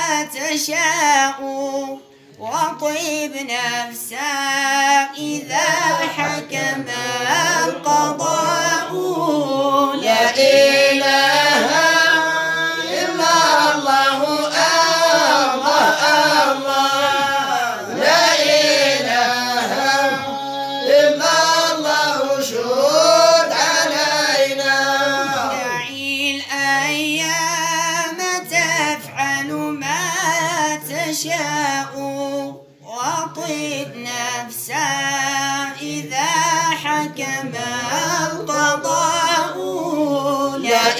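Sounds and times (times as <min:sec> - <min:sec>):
person singing praise song: 0:00.0 - 0:40.9.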